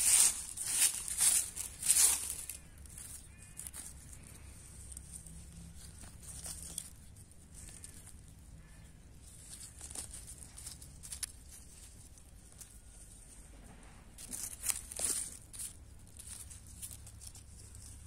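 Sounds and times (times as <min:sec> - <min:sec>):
leaves tearing and rustling: 0:00.0 - 0:13.3, 0:14.2 - 0:18.0.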